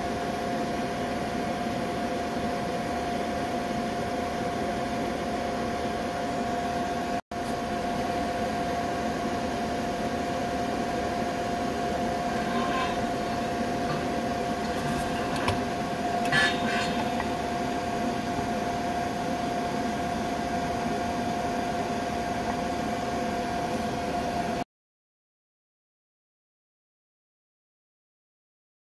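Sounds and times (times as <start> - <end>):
steady machine hum: 0.0 - 24.6.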